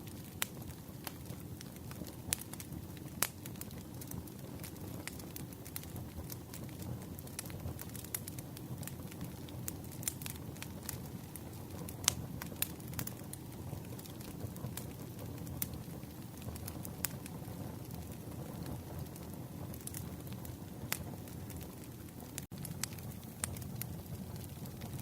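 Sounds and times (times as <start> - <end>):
campfire flames rumbling: 0.0 - 25.0
wood crackling and popping: 0.0 - 25.0.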